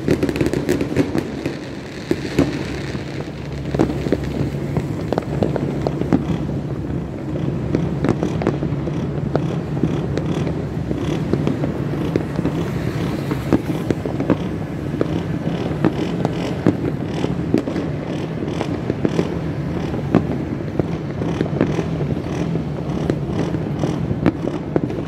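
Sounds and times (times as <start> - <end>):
firecrackers going off: 0.0 - 25.0
fireworks popping and banging: 0.0 - 25.0.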